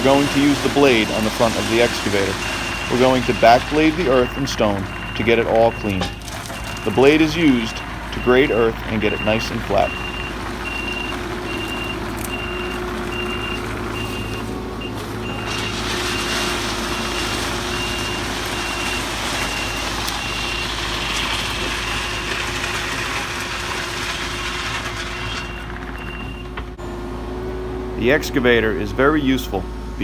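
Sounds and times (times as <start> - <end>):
reversing alarm beeping: 0.0 - 23.2, 25.2 - 27.0
blade scraping earth and stone: 0.0 - 26.0
excavator engine under load: 0.0 - 30.0.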